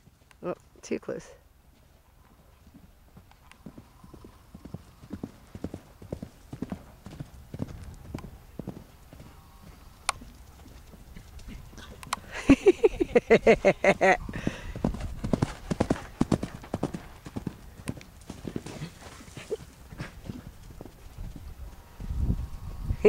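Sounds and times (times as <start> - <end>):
horse hoofbeats on dirt: 1.7 - 12.2, 14.1 - 22.6.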